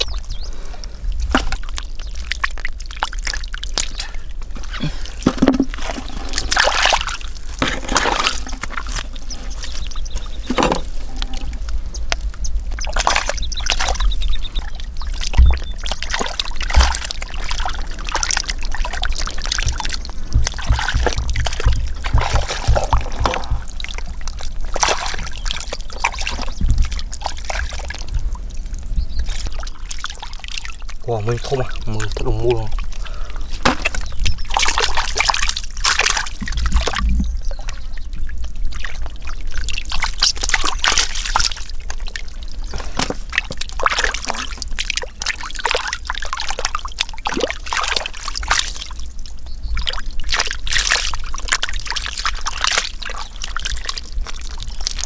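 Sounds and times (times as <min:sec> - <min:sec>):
hands splashing in muddy water: 0:01.2 - 0:11.4, 0:12.8 - 0:28.1, 0:29.2 - 0:37.8, 0:38.7 - 0:49.0, 0:49.8 - 0:55.0.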